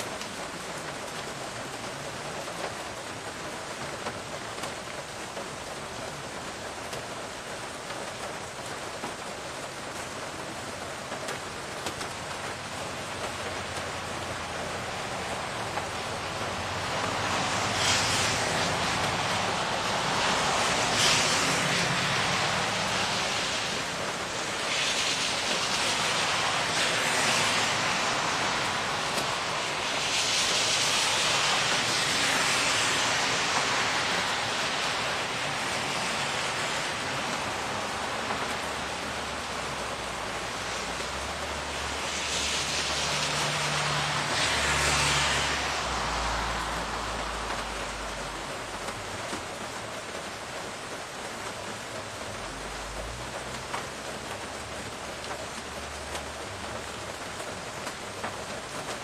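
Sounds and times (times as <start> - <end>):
steady rainfall: 0.0 - 59.0
tyres hissing on wet road: 0.0 - 59.0.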